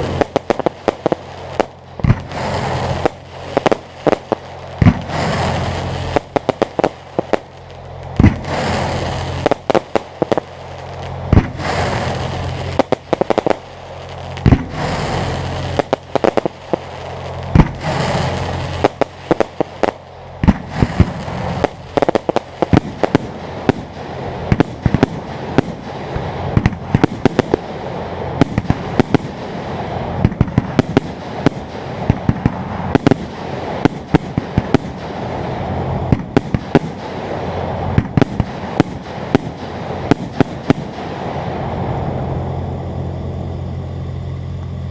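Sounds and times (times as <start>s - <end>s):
fireworks bursting with bangs: 0.0s - 44.1s
fireworks crackling: 0.0s - 44.9s
steady low hum: 0.0s - 44.9s.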